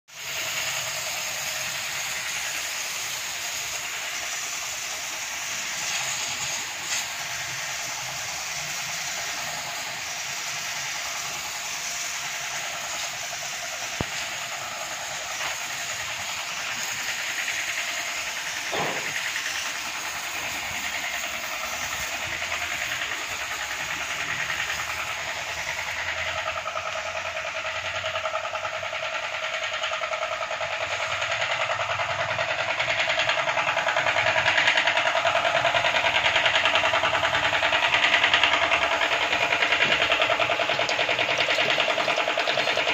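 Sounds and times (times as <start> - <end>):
pressure washer spraying: 0.1 - 42.9.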